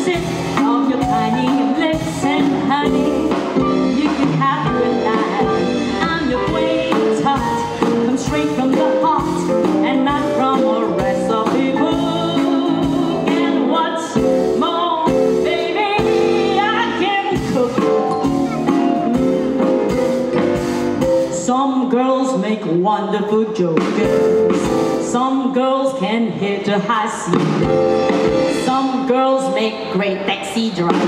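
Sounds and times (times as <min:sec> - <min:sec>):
woman singing into a microphone: 0:00.0 - 0:18.1, 0:21.3 - 0:27.7, 0:28.6 - 0:31.0
musical accompaniment: 0:00.0 - 0:22.4, 0:27.2 - 0:30.2.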